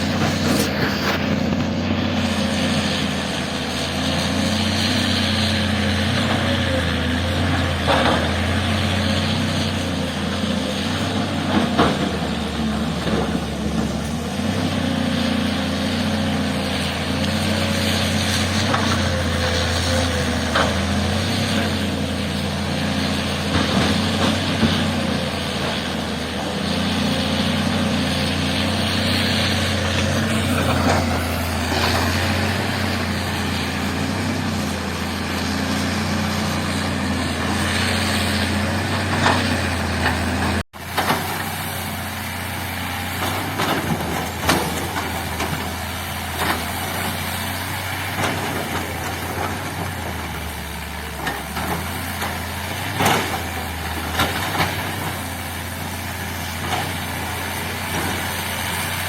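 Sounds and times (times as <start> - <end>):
heavy diesel engine working: 0.0 - 59.0.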